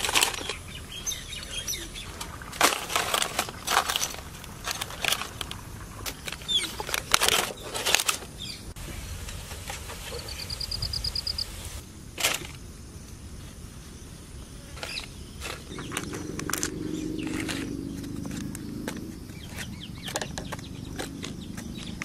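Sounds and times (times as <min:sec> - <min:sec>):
sharp crackles and clicks: 0:00.0 - 0:12.6, 0:14.8 - 0:22.0.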